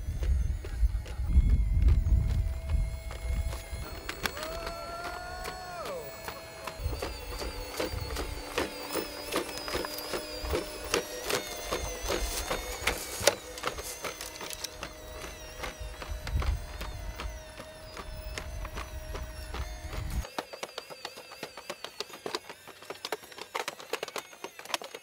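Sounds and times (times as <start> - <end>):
mechanical whirring hum: 0.0 - 25.0.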